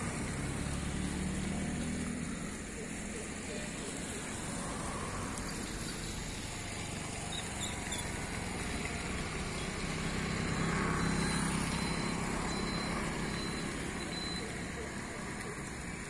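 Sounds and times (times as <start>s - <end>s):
road traffic rumble: 0.0s - 16.0s
vehicle low hum: 0.0s - 16.0s.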